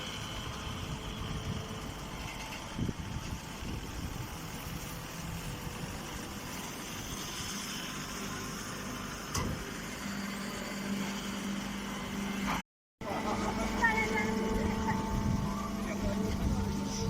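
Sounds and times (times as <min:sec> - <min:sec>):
machine running: 0:00.0 - 0:17.0.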